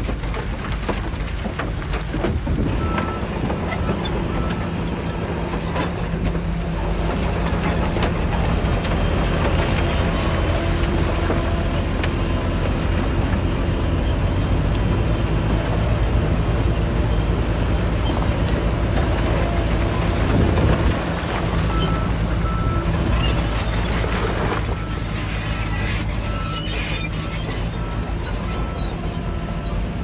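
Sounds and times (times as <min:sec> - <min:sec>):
heavy diesel engine rumbling: 0:00.0 - 0:30.0.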